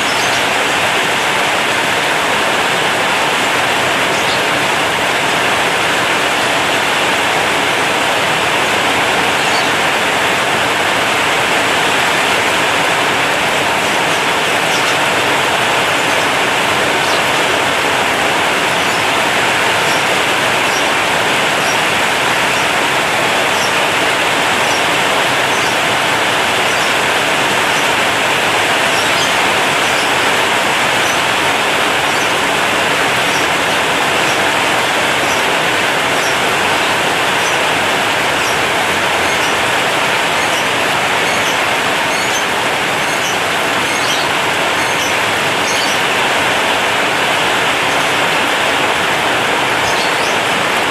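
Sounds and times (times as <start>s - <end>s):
heavy rain on a metal roof: 0.0s - 50.9s.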